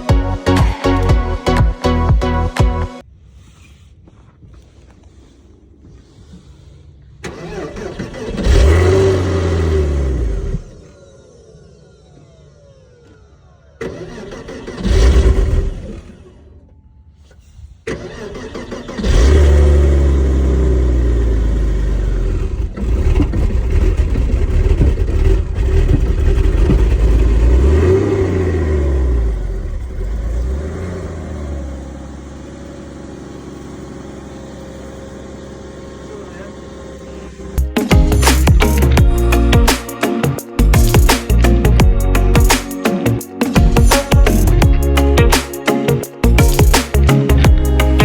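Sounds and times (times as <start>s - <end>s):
car engine starting and idling: 0.0s - 48.0s.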